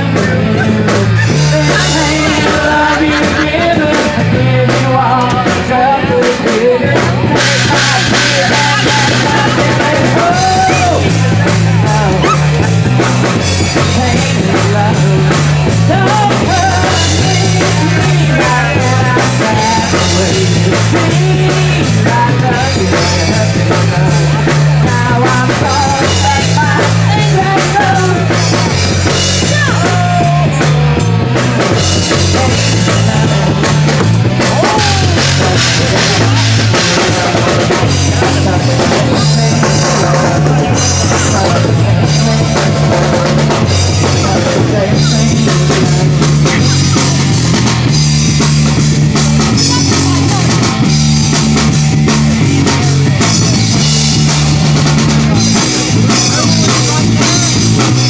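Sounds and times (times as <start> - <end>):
loud hard rock music: 0.0 - 58.0.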